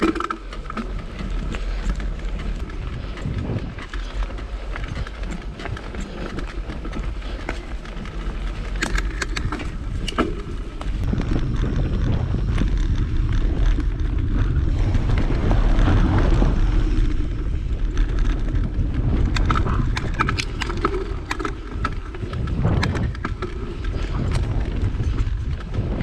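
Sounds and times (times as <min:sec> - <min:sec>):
bike clicking and rattling: 0:00.0 - 0:26.0
bike tyre noise: 0:00.0 - 0:26.0
wind buffeting microphone: 0:00.0 - 0:26.0.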